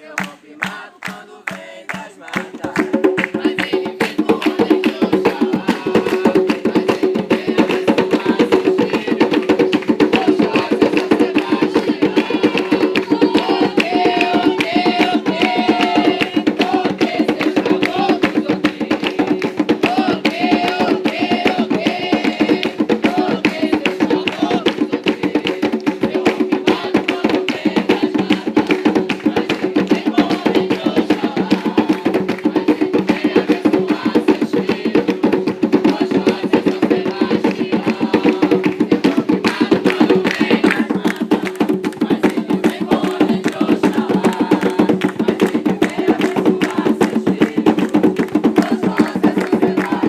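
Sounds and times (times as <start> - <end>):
hand drums and percussion: 0.0 - 50.0
voices singing: 0.0 - 50.0.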